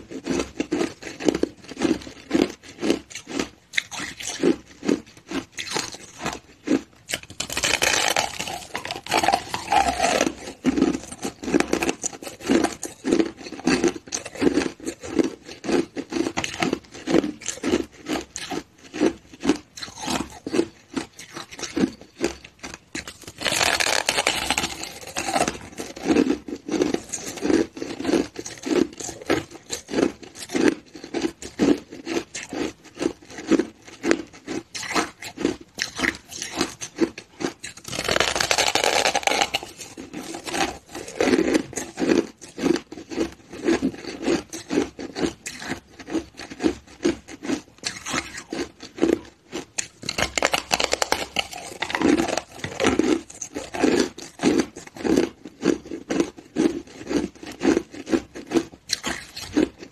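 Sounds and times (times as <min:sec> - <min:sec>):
ice being chewed and crunched: 0:00.0 - 0:59.9.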